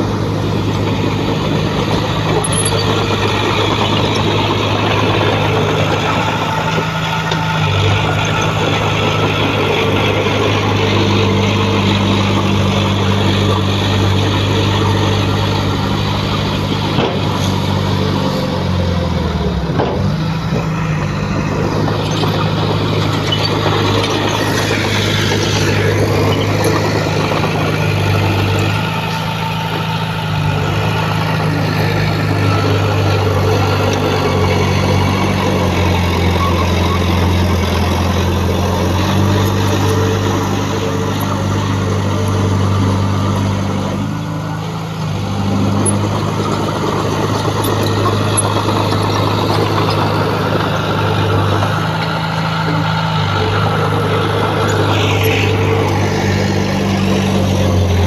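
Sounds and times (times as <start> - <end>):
dense mechanical noise: 0.0 - 58.0
diesel engine revving: 0.0 - 58.0.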